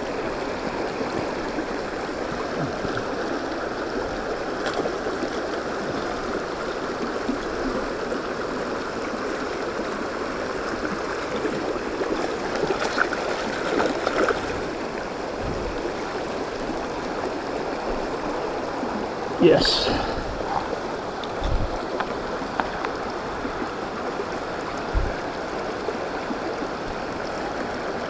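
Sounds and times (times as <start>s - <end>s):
stream running over stones: 0.0s - 28.0s.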